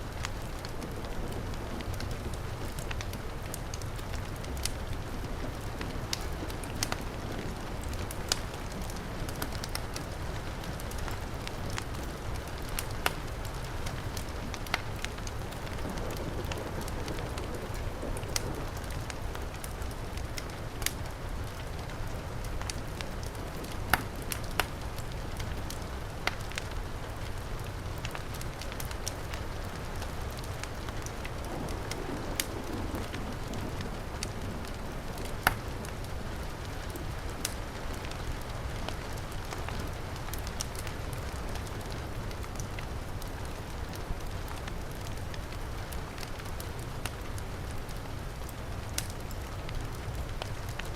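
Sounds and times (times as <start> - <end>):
heavy rain: 0.0 - 50.9
wood fire crackling and popping: 0.0 - 50.9.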